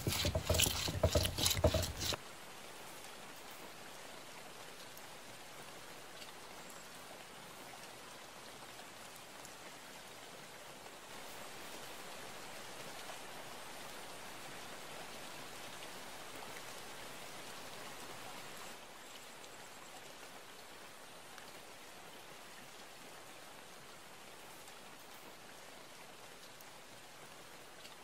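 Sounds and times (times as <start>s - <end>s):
steady rain-like hiss: 2.2s - 28.0s.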